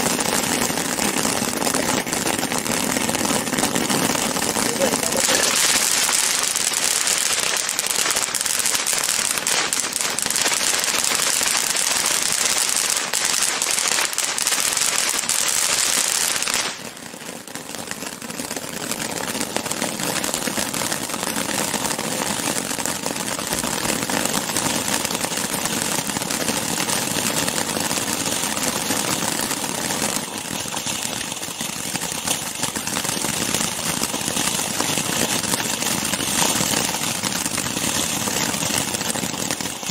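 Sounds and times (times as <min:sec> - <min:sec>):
firework fountain hissing and crackling: 0:00.0 - 0:39.9.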